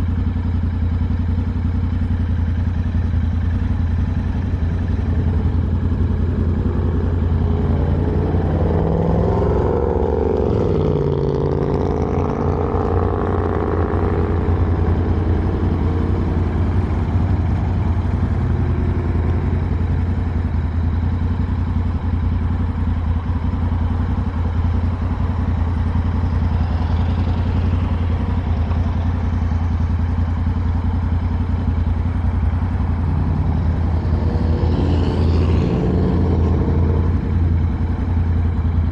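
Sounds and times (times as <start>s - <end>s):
engine whine: 0.0s - 38.9s
motorcycle engine droning: 0.0s - 38.9s.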